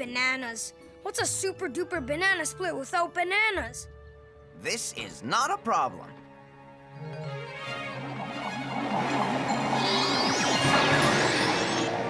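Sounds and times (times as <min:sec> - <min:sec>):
cartoon background music: 0:00.0 - 0:12.0.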